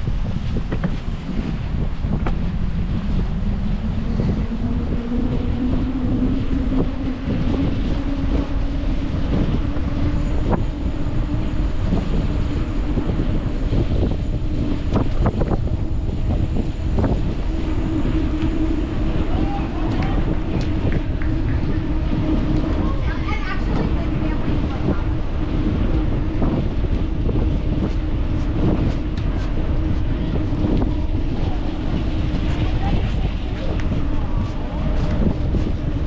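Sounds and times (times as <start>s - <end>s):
steady hum: 0.0s - 36.0s
wind rushing over microphone: 0.0s - 36.0s.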